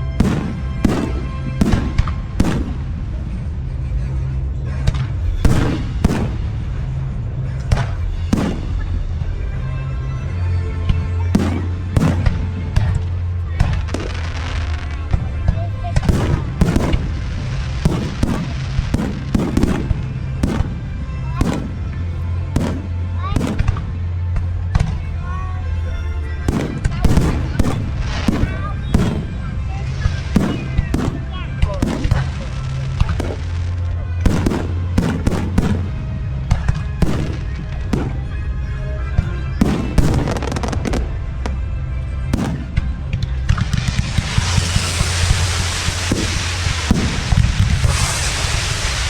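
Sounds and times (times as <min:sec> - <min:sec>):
fireworks bangs: 0:00.0 - 0:03.4, 0:04.9 - 0:09.5, 0:10.9 - 0:25.0, 0:26.4 - 0:49.0
music playing: 0:00.0 - 0:49.0.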